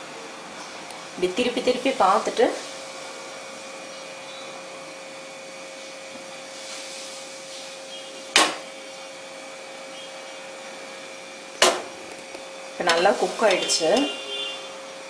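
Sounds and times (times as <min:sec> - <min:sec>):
faint hum: 0:00.0 - 0:15.0
gas burner hiss: 0:00.8 - 0:15.0.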